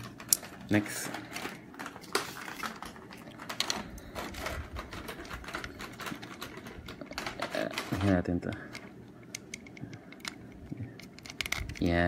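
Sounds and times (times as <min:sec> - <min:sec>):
plastic parts clicking and tapping: 0:00.0 - 0:12.0.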